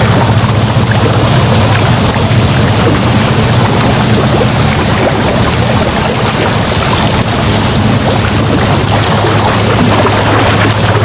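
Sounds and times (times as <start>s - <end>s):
low continuous rumble: 0.0s - 11.0s
sea waves rushing: 0.0s - 11.0s.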